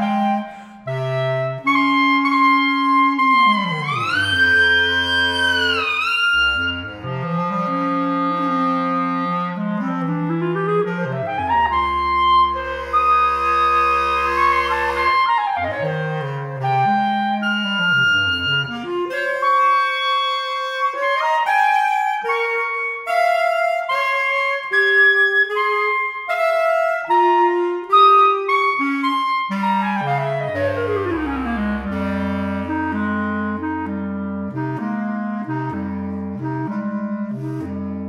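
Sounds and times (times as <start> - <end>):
clarinet duet: 0.0 - 38.0.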